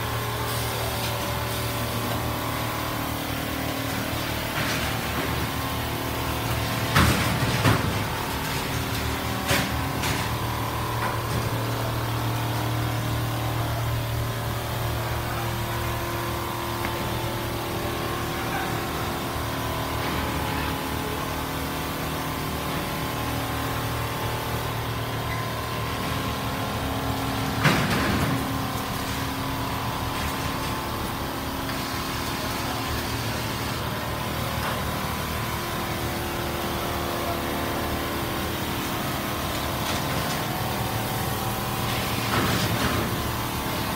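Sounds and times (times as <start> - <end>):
machines humming: 0.0 - 43.9.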